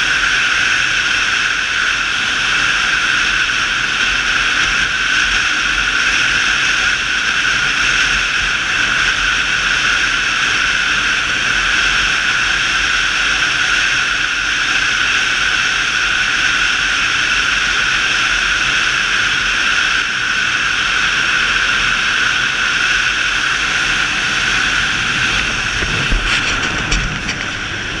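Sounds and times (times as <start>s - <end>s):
motorcycle engine running: 0.0s - 28.0s
wind rushing on microphone: 0.0s - 28.0s.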